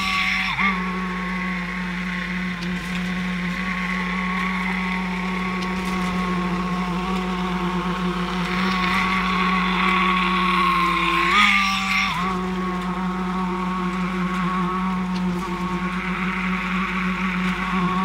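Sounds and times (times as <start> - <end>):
machinery motor hum and whine: 0.0 - 18.0.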